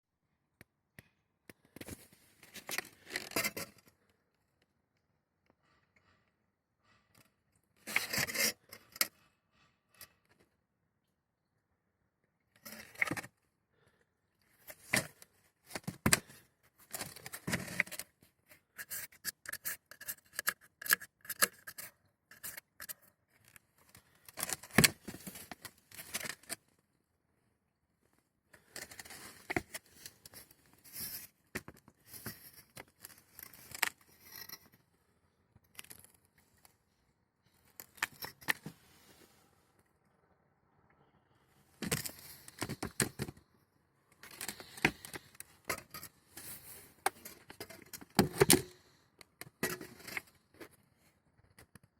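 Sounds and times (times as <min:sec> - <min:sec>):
plastic and metal handling noise: 0:01.0 - 0:04.7, 0:06.8 - 0:10.5, 0:12.5 - 0:26.8, 0:28.0 - 0:39.3, 0:41.7 - 0:51.9.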